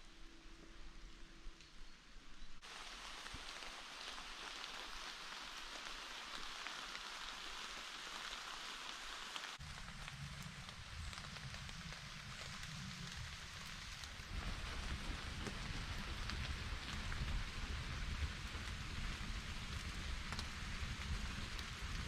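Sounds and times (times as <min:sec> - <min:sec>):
heavy rain falling: 0:02.6 - 0:22.0.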